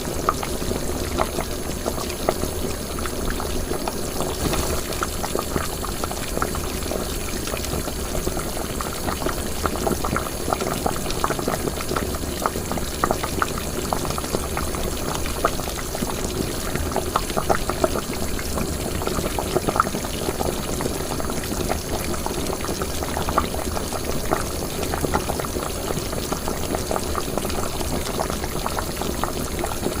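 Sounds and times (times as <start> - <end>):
liquid boiling in a pot: 0.0 - 30.0.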